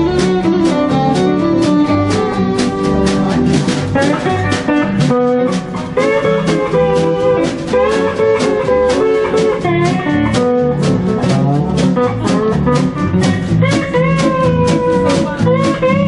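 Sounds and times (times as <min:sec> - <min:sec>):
bass: 0:00.0 - 0:16.0
guitar lead: 0:00.0 - 0:16.0
steady drum beat: 0:00.0 - 0:16.0.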